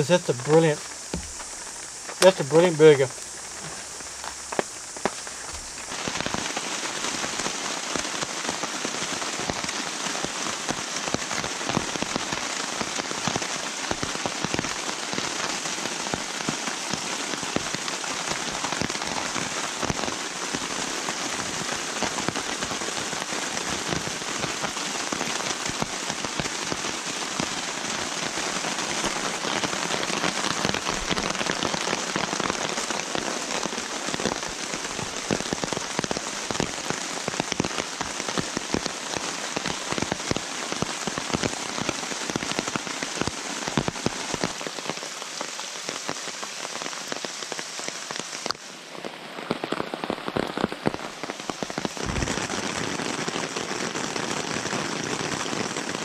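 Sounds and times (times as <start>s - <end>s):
heavy rain falling: 0.0s - 56.0s
rain pattering on a tarp: 0.0s - 56.0s.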